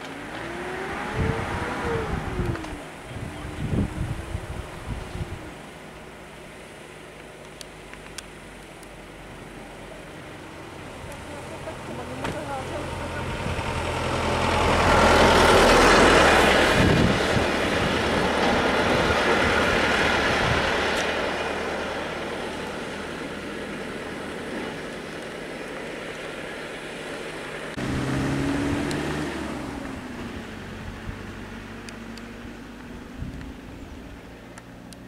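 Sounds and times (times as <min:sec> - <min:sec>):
engine hum: 0:00.0 - 0:35.0
vehicles passing: 0:00.0 - 0:35.0.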